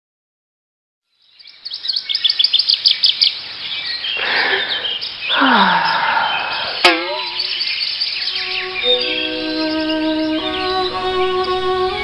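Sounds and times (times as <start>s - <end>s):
birds chirping: 1.1s - 12.0s.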